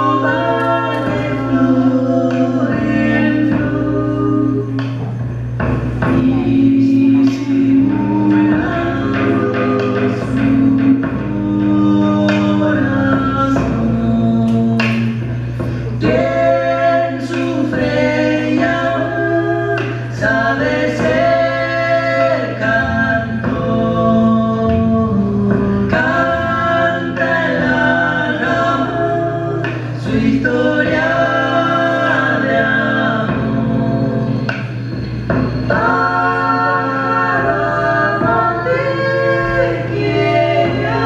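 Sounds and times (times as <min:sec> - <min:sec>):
voices singing in harmony: 0:00.0 - 0:41.0.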